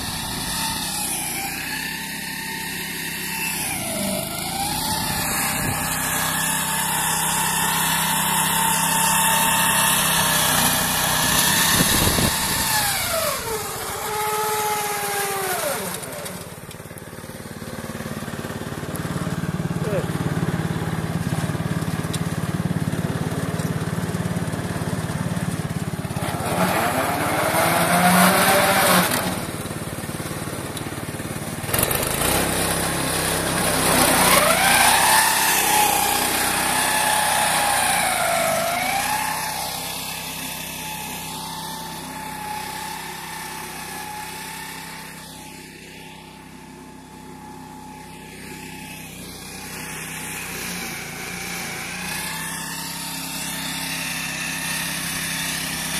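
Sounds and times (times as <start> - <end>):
mowing machine engine revving: 0.0 - 55.9.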